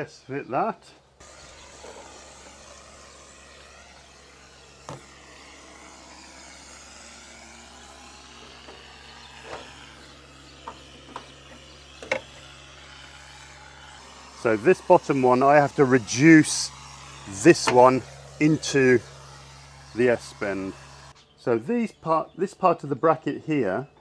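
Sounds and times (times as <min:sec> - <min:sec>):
faint outdoor background: 0:00.0 - 0:24.0.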